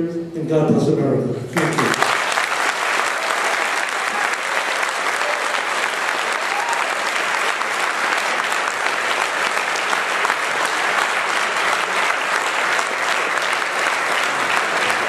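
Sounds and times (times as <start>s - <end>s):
audience applauding: 1.6s - 15.0s.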